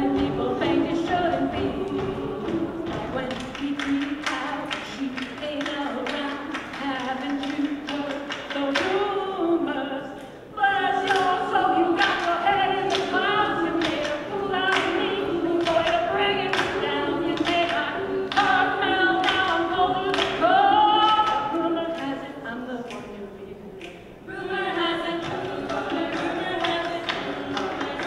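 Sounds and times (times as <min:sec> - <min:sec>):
a cappella group singing in harmony: 0:00.0 - 0:28.0.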